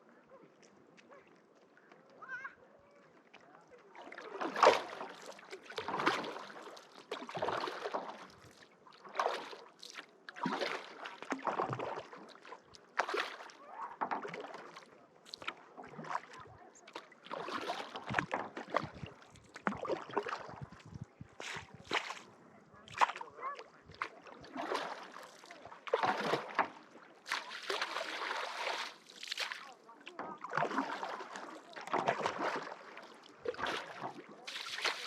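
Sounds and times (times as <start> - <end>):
paddle strokes splashing in water: 3.2 - 35.0.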